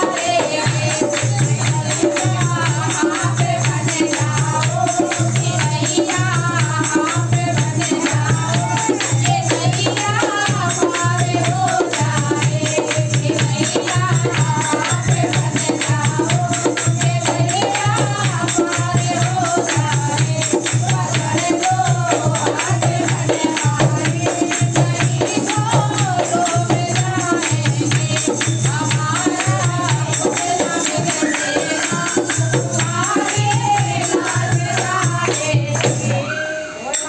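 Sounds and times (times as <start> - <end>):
dholak drum: 0.0 - 37.0
jingling percussion: 0.0 - 37.0
women singing devotional song: 0.0 - 37.0.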